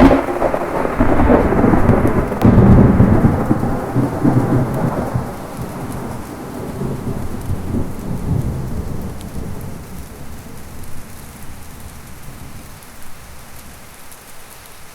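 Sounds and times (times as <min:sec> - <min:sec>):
thunder rumbling: 0:00.0 - 0:14.0
heavy rain: 0:00.0 - 0:14.9.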